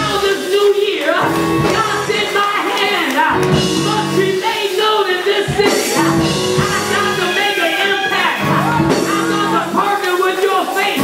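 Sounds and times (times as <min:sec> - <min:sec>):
church worship music: 0:00.0 - 0:11.0.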